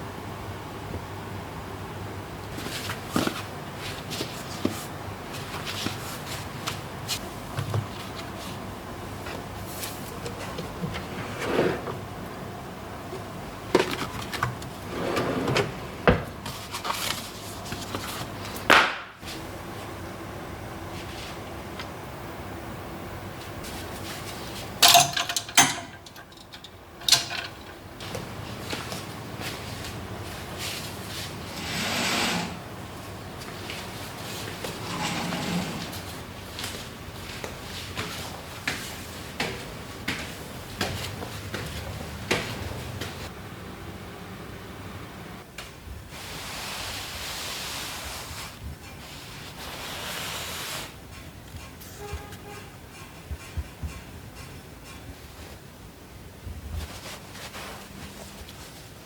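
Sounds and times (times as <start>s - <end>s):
room noise: 0.0s - 59.0s.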